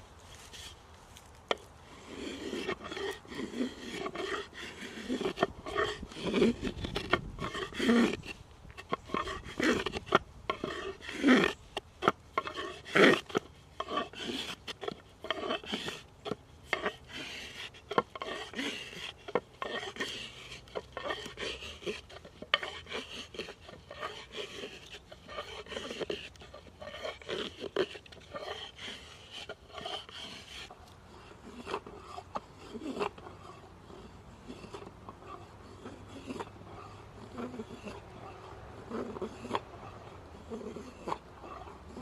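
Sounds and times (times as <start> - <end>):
hand tool rasping on wood: 1.5 - 42.0.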